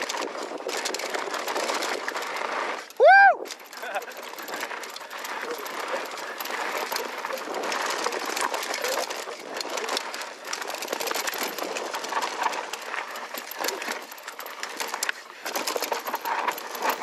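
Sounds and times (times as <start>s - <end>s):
bike clicking and rattling: 0.0s - 17.0s
bike tyres rolling over dirt and rock: 0.0s - 17.0s.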